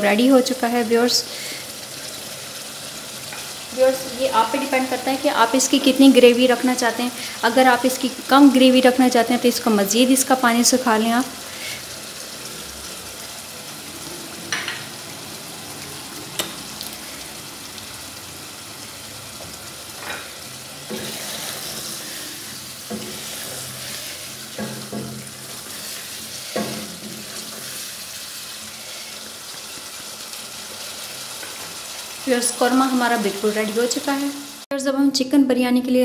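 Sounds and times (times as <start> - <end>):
food sizzling in saucepan: 0.0 - 34.7.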